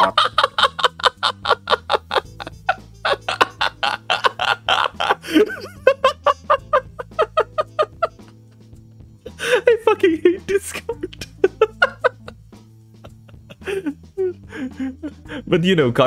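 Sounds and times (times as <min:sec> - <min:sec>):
man laughing hard: 0:00.0 - 0:08.6, 0:09.3 - 0:12.4, 0:13.0 - 0:15.5
quiet background music: 0:00.0 - 0:16.0.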